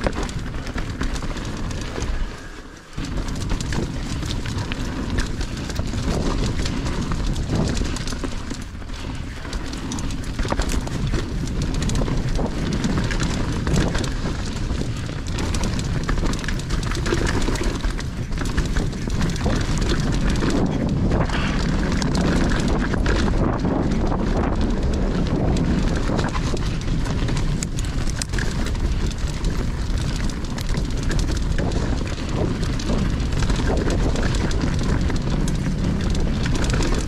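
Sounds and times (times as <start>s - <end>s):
bike rattling over bumps: 0.0s - 37.0s
bike tyres rumbling on dirt: 0.0s - 37.0s.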